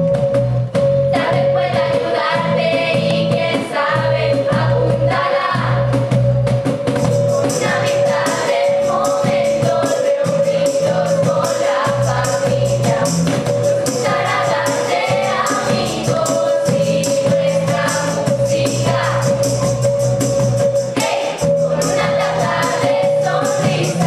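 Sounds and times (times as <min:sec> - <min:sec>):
music with steady beat: 0:00.0 - 0:24.0
girls singing together: 0:01.2 - 0:05.9, 0:07.4 - 0:19.4, 0:21.0 - 0:24.0.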